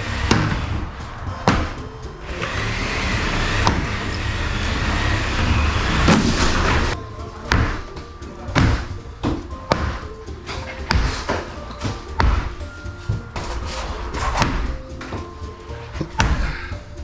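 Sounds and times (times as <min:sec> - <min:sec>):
background music: 0:00.0 - 0:17.0
demolition rushing clatter: 0:00.0 - 0:17.0
heavy knocks: 0:00.0 - 0:17.0.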